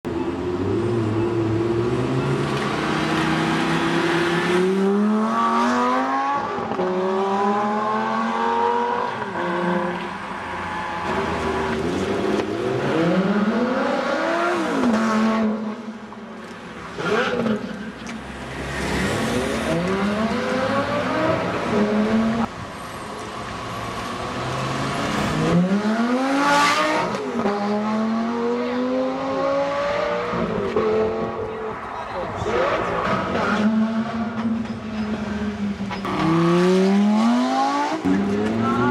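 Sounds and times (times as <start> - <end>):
sports car engines accelerating hard: 0.1 - 22.6, 23.4 - 38.9.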